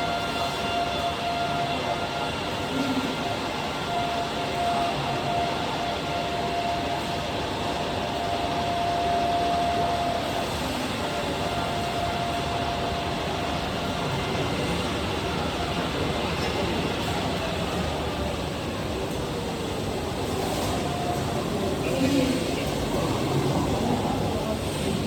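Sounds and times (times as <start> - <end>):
continuous rushing noise: 0.0 - 25.0.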